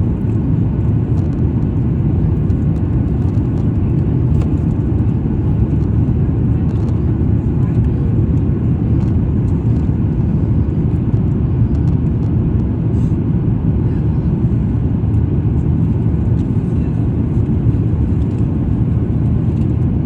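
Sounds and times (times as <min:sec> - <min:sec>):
airliner engine rumble in cabin: 0:00.0 - 0:20.0.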